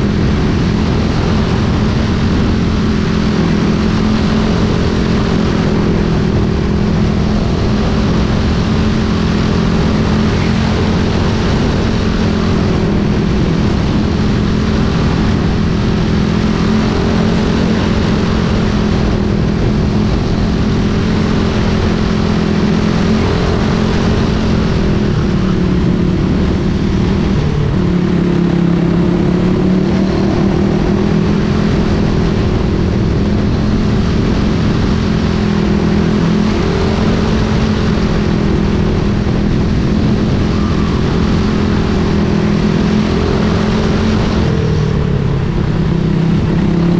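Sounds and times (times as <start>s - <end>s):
race car engine running: 0.0s - 46.9s.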